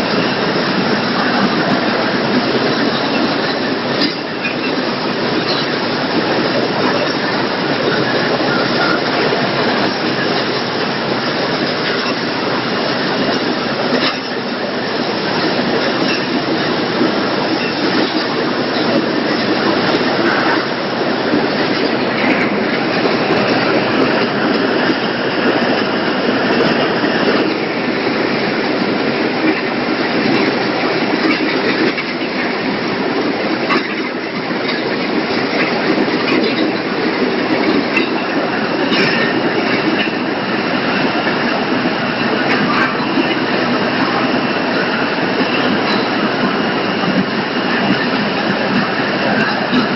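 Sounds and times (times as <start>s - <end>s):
processing machinery running: 0.0s - 49.9s.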